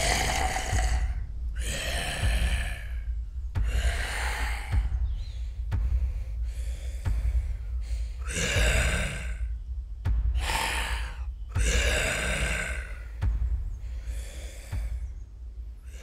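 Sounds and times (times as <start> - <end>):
woman breathing heavily: 0.0 - 16.0.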